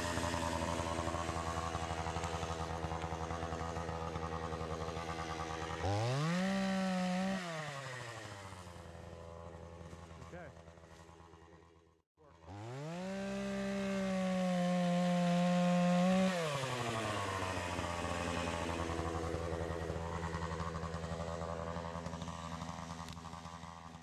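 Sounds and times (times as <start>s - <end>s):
chainsaw revving and idling: 0.0s - 24.0s.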